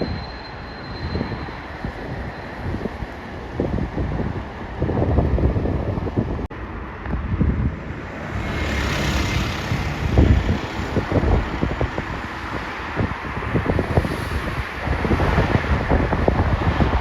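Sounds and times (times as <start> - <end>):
jet airliner engines: 0.0 - 17.0
wind buffeting microphone: 0.0 - 17.0.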